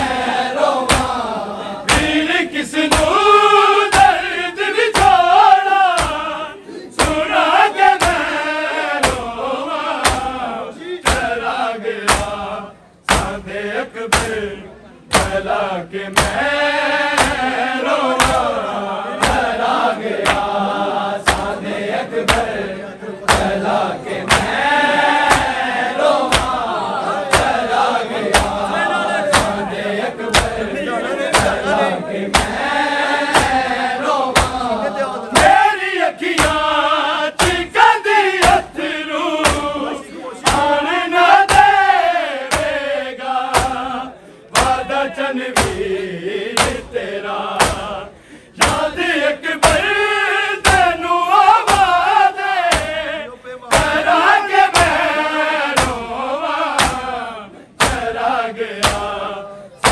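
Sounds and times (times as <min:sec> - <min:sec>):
men chanting a lament: 0:00.0 - 0:59.9
rhythmic chest-beating: 0:00.0 - 0:59.9.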